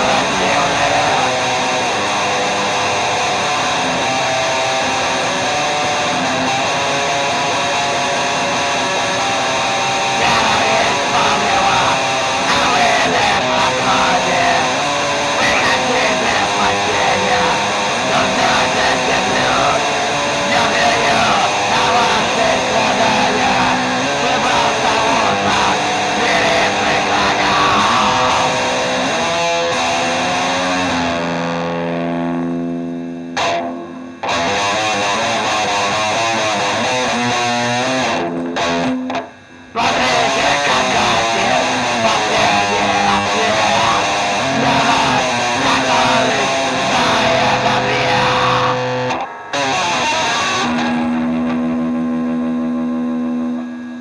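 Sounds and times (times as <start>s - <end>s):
distorted electric guitar music: 0.0s - 54.0s.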